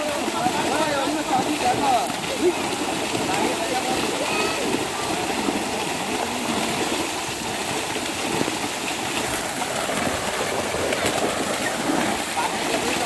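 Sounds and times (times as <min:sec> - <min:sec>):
fish thrashing in water: 0:00.0 - 0:13.0.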